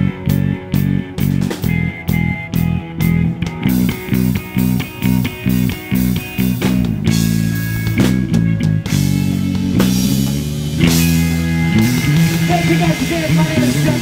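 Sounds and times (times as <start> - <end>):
drums: 0.0 - 14.0
electric guitar chords: 0.0 - 14.0.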